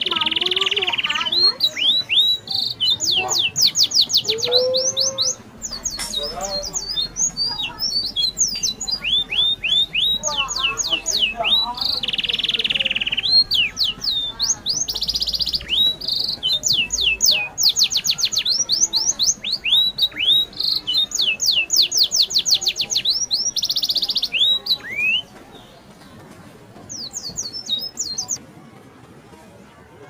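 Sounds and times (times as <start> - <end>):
bird song with whistles: 0.0 - 25.3.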